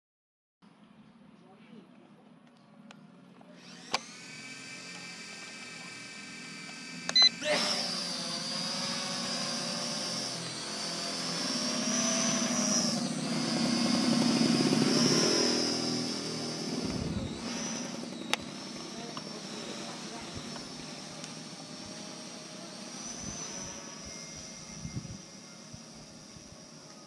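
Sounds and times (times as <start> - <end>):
toy drone propellers whining: 3.5 - 27.0.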